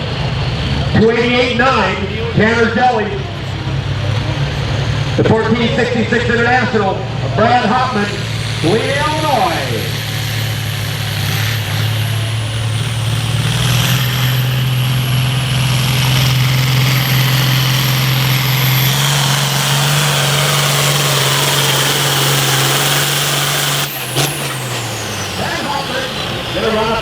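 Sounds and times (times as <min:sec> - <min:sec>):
high turbo whine: 0:00.0 - 0:27.0
tractor diesel engine under load: 0:00.0 - 0:27.0.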